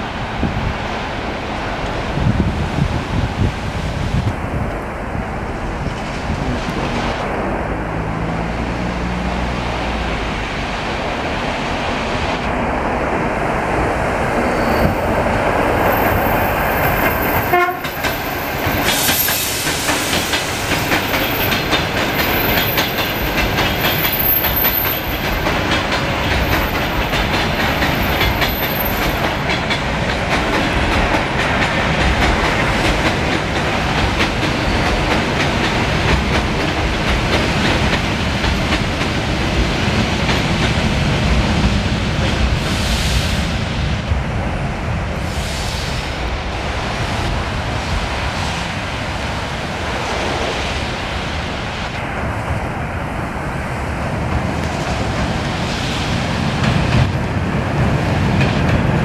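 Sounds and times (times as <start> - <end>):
train rattling close by: 0.0 - 59.0
train rumbling past: 0.0 - 59.0.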